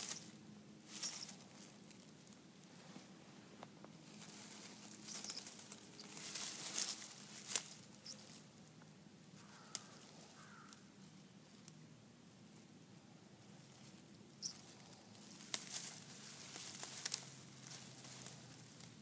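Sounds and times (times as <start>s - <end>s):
rustling of grass and dry leaves: 0.0s - 19.0s.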